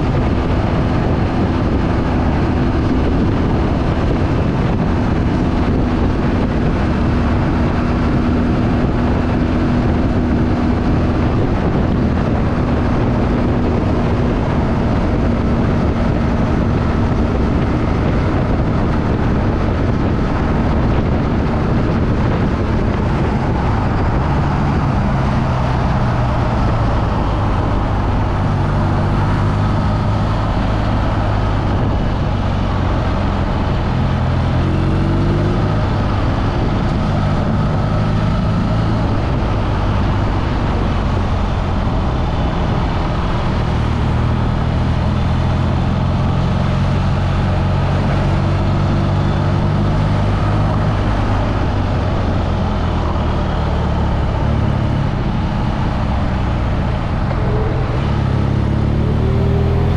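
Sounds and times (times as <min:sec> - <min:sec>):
motorcycle engine hum: 0:00.0 - 0:59.9
wind and road noise: 0:00.0 - 0:59.9.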